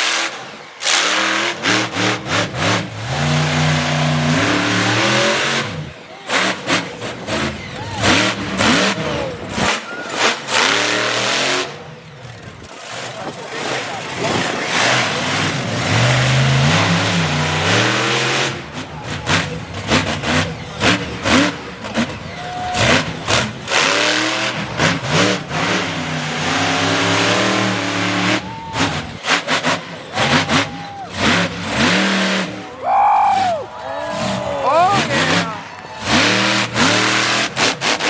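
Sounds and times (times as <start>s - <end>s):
monster truck engine revving: 0.0s - 38.0s.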